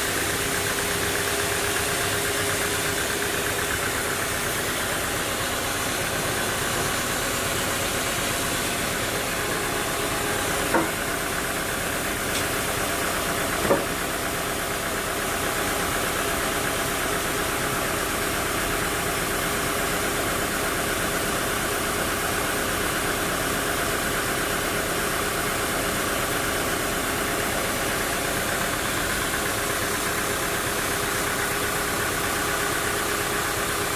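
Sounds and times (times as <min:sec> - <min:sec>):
sawmill machinery droning: 0:00.0 - 0:33.9.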